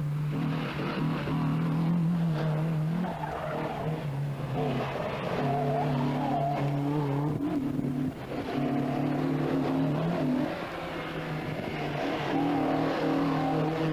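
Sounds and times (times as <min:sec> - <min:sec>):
rally car engine at high revs: 0:00.0 - 0:13.9.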